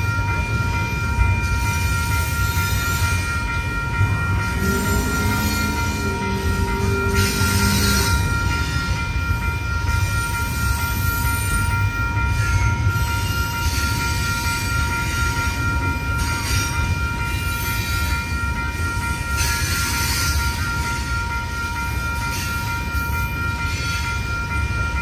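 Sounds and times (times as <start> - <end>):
crossing bell ringing: 0.0 - 25.0.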